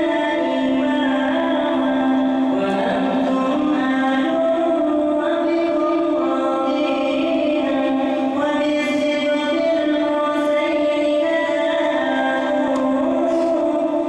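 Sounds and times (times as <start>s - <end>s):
chanted singing: 0.0s - 14.0s.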